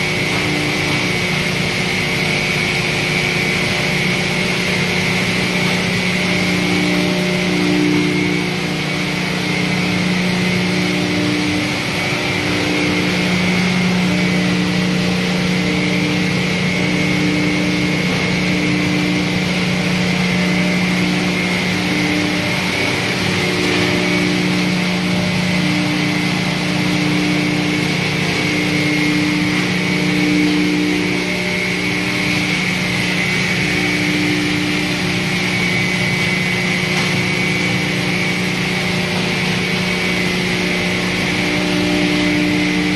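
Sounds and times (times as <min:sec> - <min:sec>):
hammer mill machine drone: 0:00.0 - 0:42.9
high machine whine: 0:00.0 - 0:42.9.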